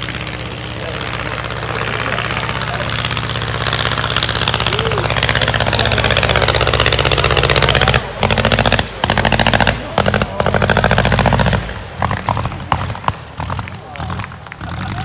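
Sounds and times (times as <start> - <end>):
airplane engine running hard: 0.0 - 15.0.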